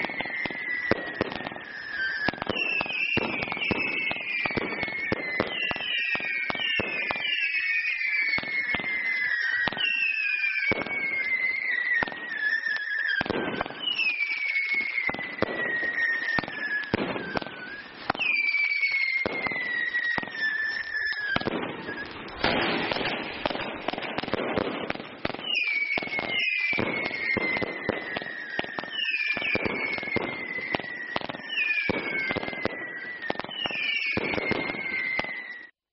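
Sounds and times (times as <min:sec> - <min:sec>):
firework pops and crackling: 0:00.0 - 0:35.7
falling firework whistles: 0:00.0 - 0:35.8.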